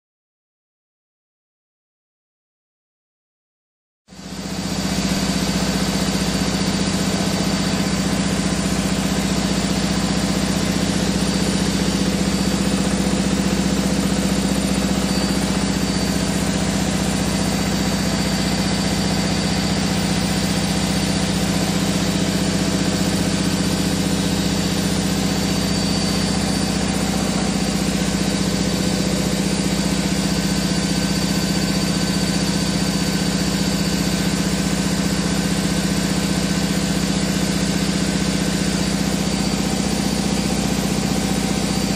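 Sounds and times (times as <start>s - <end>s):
washing machine spinning: 4.1s - 41.9s.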